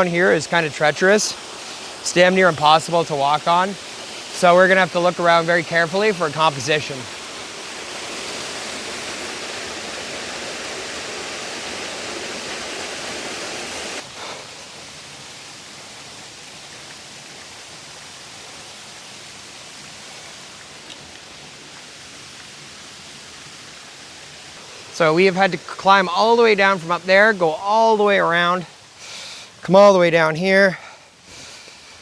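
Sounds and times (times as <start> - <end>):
waterfall and rapids rushing: 0.0 - 32.0.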